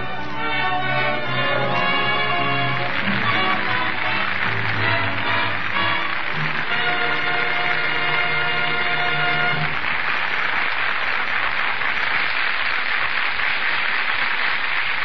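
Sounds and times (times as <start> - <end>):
studio audience applauding: 1.0 - 15.0.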